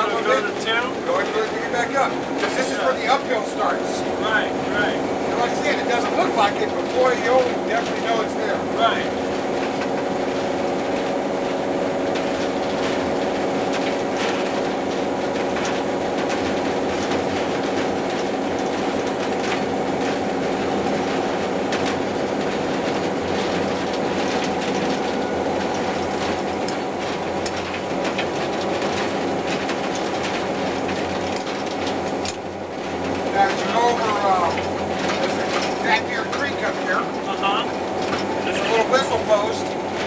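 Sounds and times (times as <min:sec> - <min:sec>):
diesel locomotive engine running: 0:00.0 - 0:40.0
wheel and cab clicks and rattles: 0:00.0 - 0:40.0.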